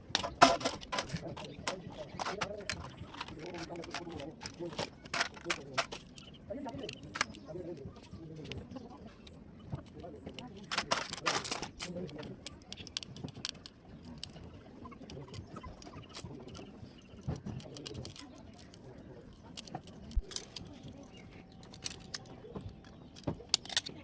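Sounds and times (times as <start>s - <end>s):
clicks and taps of screws: 0.0s - 8.6s, 9.2s - 14.4s, 15.1s - 24.0s.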